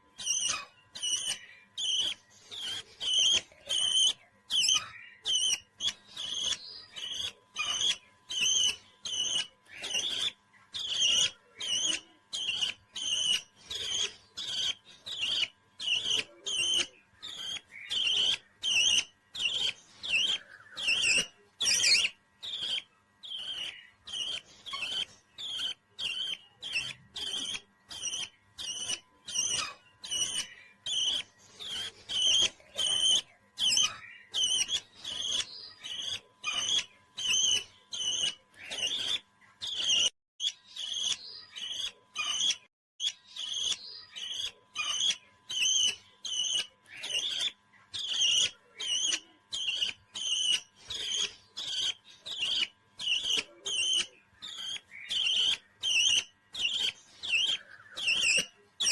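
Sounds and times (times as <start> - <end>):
parrot chirping: 0.0 - 58.9.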